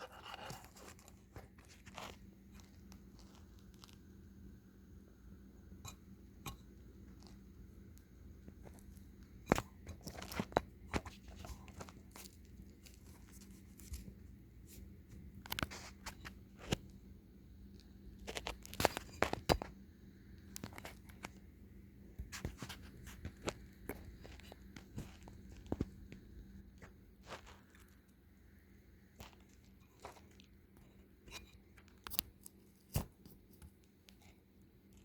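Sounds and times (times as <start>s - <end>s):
ceiling fan humming: 0.0s - 35.0s.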